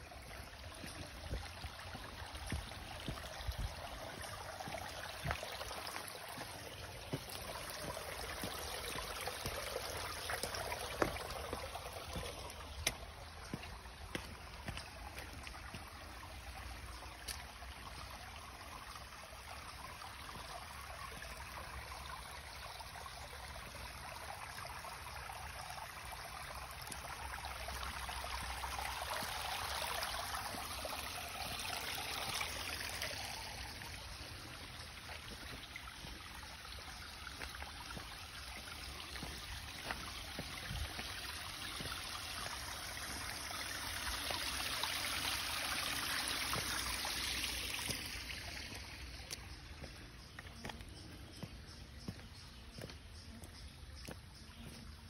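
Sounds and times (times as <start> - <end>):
creek water trickling over rocks: 0.0 - 55.0
small water cascade: 0.0 - 55.0.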